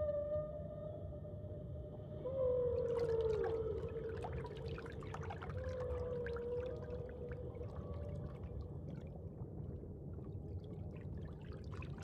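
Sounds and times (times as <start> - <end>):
muffled underwater rumble: 0.0 - 11.2.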